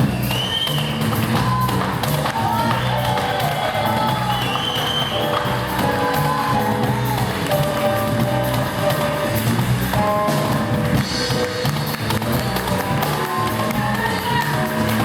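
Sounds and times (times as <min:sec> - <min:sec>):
bass line: 0:00.0 - 0:15.0
percussion hits: 0:00.0 - 0:15.0.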